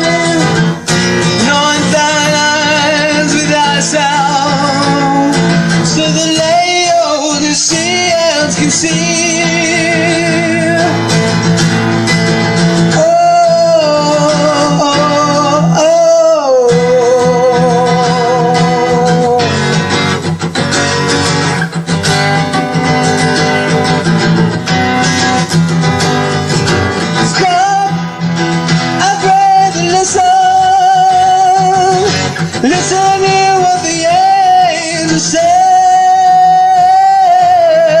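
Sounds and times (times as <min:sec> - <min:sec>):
person singing with vibrato: 0:00.0 - 0:20.2, 0:22.4 - 0:38.0
instrumental backing: 0:00.0 - 0:38.0.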